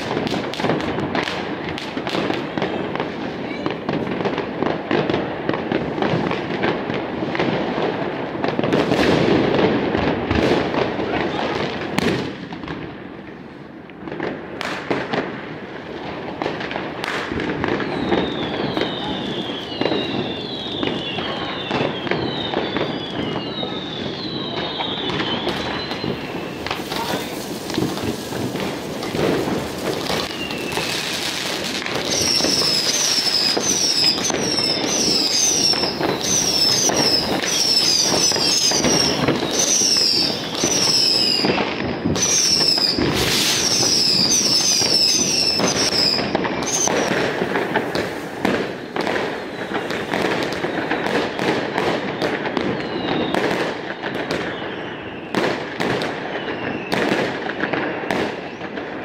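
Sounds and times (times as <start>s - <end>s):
fireworks bangs and crackling: 0.0s - 59.0s
whistling fireworks: 0.0s - 59.0s.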